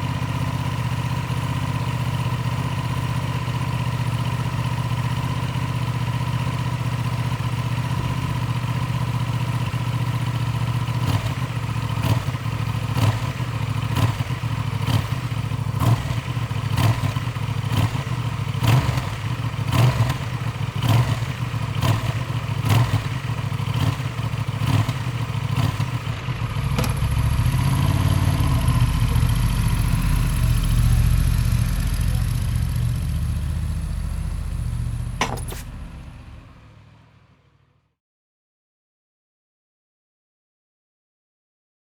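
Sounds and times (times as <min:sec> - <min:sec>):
motorcycle engine idling: 0:00.0 - 0:37.7.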